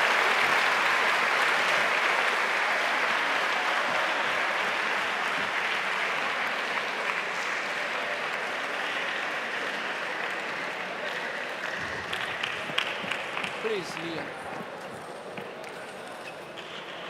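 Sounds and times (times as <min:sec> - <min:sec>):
spectators applauding: 0:00.0 - 0:15.9.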